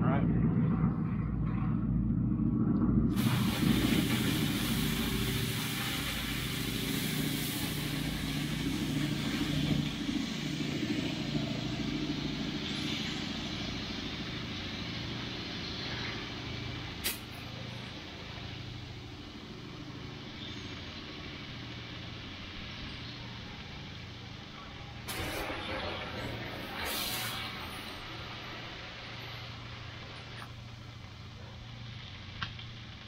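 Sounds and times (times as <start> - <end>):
airplane droning overhead: 0.0 - 33.0
water hissing into steam: 3.2 - 33.0.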